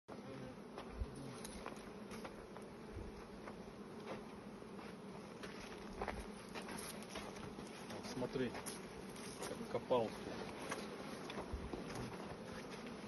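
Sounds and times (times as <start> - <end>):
bees buzzing: 0.1 - 13.0.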